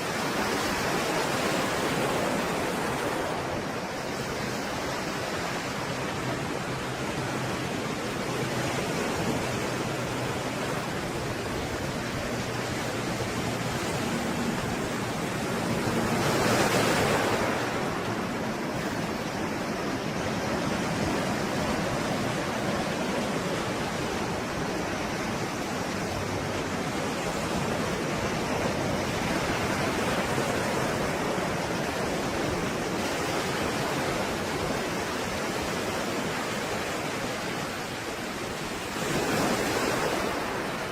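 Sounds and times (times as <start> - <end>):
wave breaking: 0.0 - 40.9
waves washing: 0.0 - 40.9.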